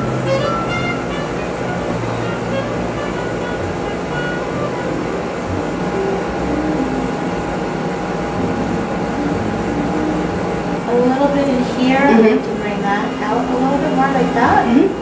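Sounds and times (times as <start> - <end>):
soft slow melody: 0.0 - 15.0
sustained tone: 0.0 - 15.0.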